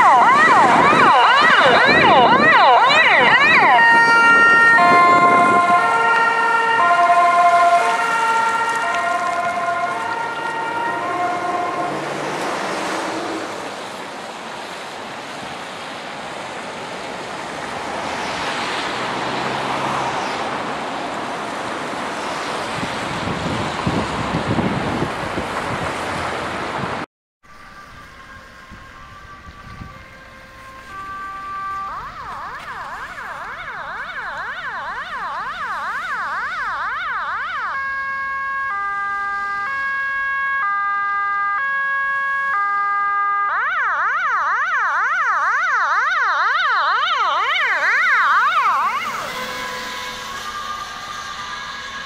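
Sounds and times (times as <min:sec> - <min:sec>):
ambulance siren: 0:00.0 - 0:26.3, 0:27.4 - 0:52.0
road traffic noise: 0:00.0 - 0:52.0.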